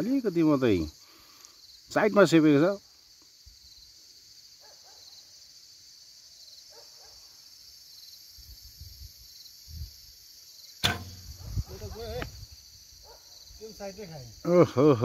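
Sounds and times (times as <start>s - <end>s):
crickets and insects chirping: 0.0s - 15.0s.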